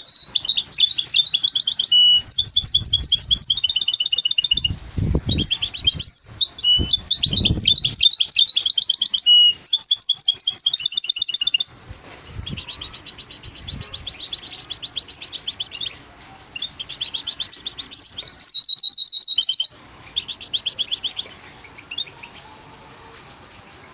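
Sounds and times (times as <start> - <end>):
songbird trilling song: 0.0 - 22.6.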